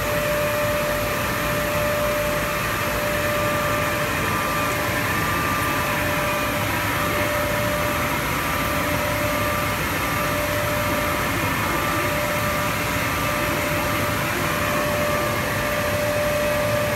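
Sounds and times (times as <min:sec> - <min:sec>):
constant high tone: 0:00.0 - 0:16.9
cutting machine whirring hum: 0:00.0 - 0:16.9.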